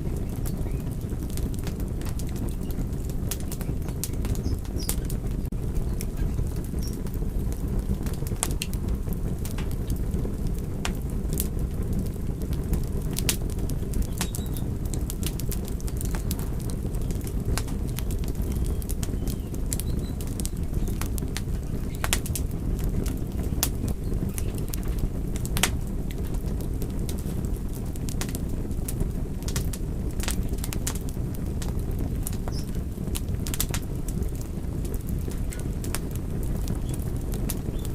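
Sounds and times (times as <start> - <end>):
fire crackling: 0.0 - 37.9
low rumble of flames: 0.0 - 37.9.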